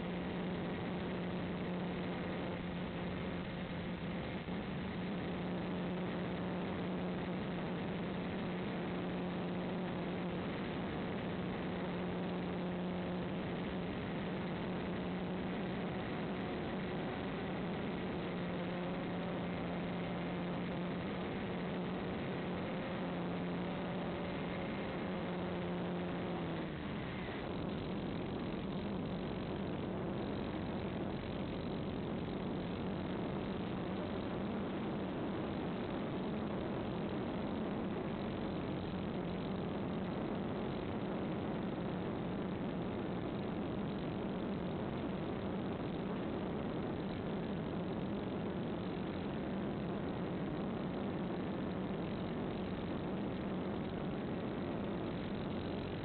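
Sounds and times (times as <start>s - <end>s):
wind or radio static hiss: 0.0s - 56.0s.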